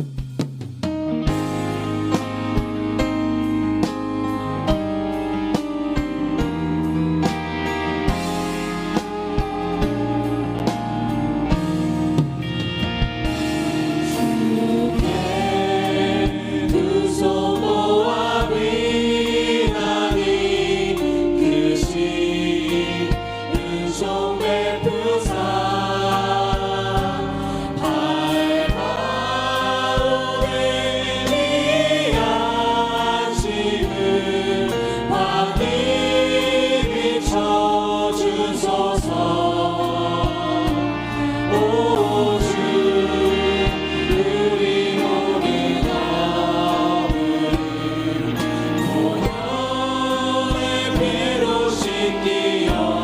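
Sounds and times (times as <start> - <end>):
live band playing: 0.0 - 53.0
steady drum beat: 0.0 - 53.0
congregation singing: 1.3 - 53.0.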